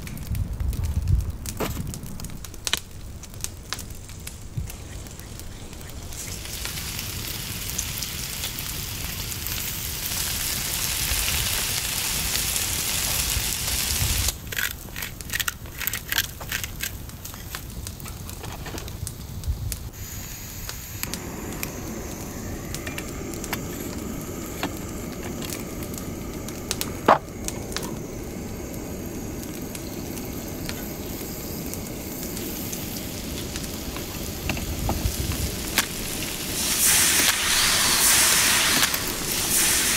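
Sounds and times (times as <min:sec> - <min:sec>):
campfire hissing and crackling: 0:00.0 - 0:39.9
camping stove burner roaring: 0:00.0 - 0:39.9.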